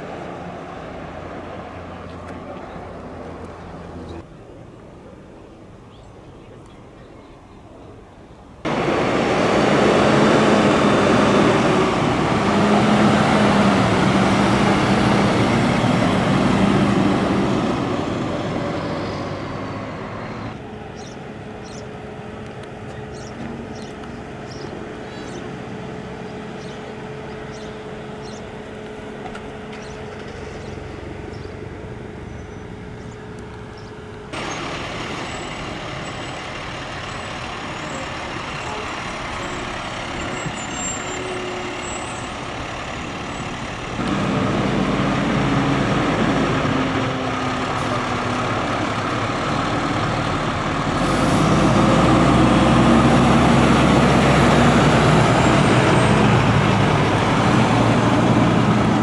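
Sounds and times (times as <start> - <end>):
fire truck engines passing: 0.0 - 59.0
diesel engine running: 8.6 - 59.0.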